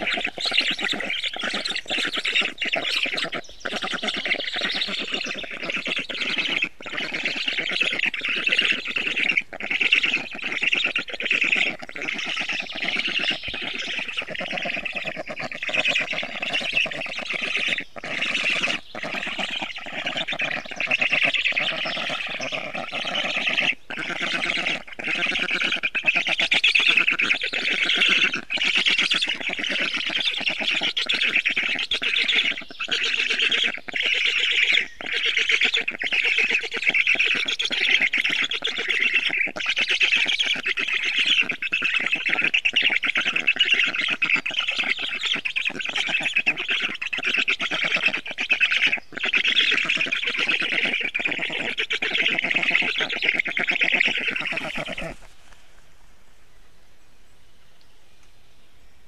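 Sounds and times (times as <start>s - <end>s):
stork calling: 0.0s - 55.8s.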